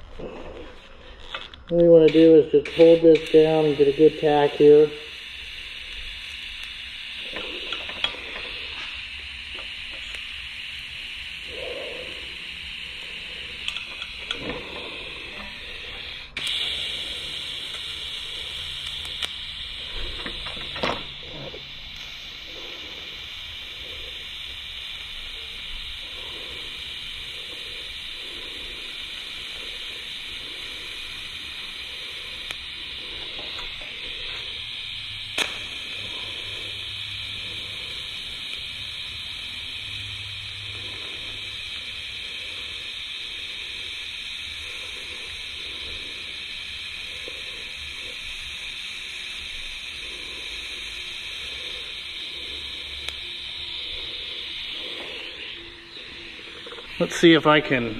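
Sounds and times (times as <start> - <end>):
welding arc hissing and buzzing: 0.0 - 57.9.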